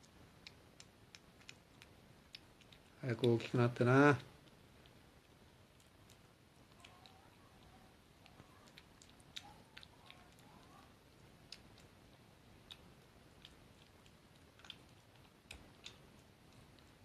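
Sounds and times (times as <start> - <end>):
kitten chewing wet food: 0.0 - 17.0.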